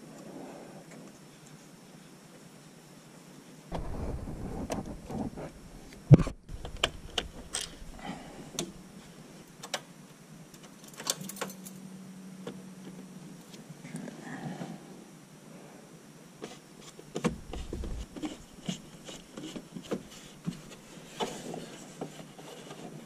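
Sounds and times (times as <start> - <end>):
low steady hum: 3.7 - 23.0.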